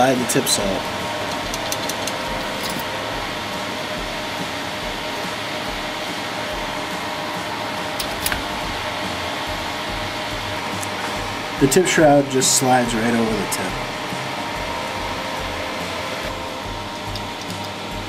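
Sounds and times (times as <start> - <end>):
printer fans whirring: 0.0 - 18.0.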